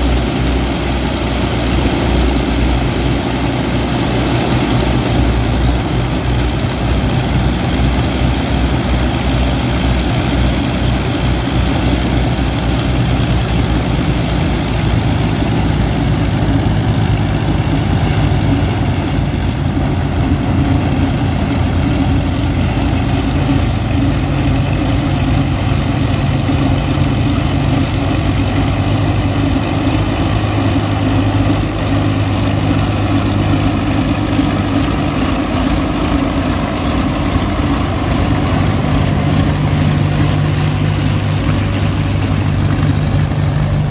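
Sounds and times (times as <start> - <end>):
piston aircraft engines droning: 0.0 - 43.9.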